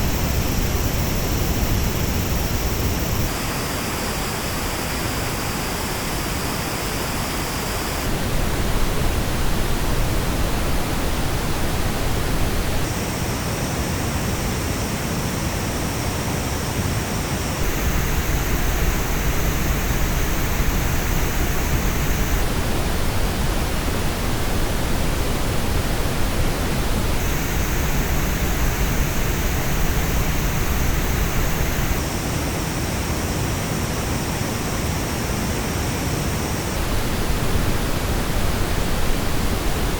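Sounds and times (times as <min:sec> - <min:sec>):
pink noise hiss through headphones: 0:00.0 - 0:39.9.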